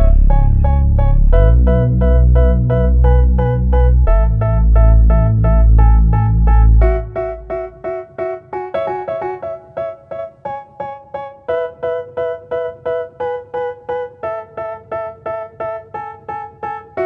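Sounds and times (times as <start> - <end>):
keyboard playing repeated notes: 0.0 - 17.0.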